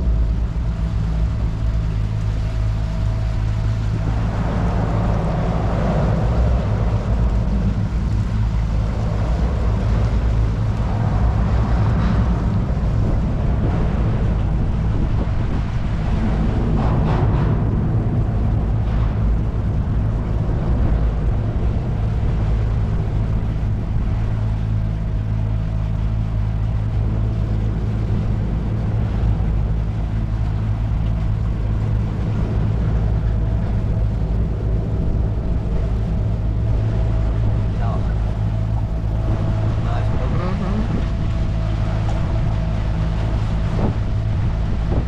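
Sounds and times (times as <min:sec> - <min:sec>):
outboard motor running: 0:00.0 - 0:45.0
wind and water rushing: 0:00.0 - 0:45.0.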